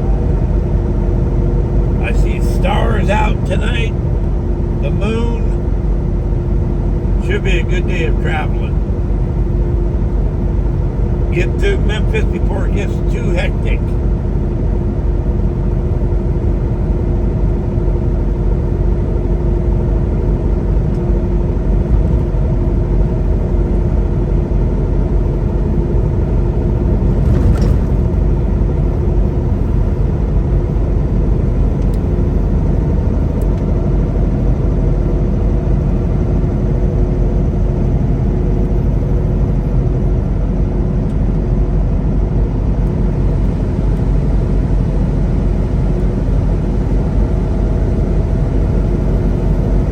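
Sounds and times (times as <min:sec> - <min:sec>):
truck engine and road noise: 0:00.0 - 0:49.9.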